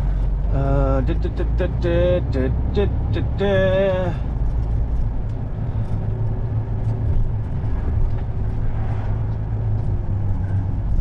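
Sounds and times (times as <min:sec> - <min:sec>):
lorry diesel engine rumble: 0:00.0 - 0:11.0
road noise: 0:00.0 - 0:11.0.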